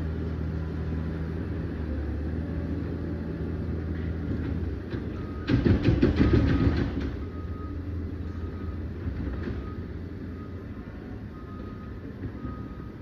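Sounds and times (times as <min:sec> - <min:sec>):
bulldozer diesel engine under load: 0:00.0 - 0:13.0.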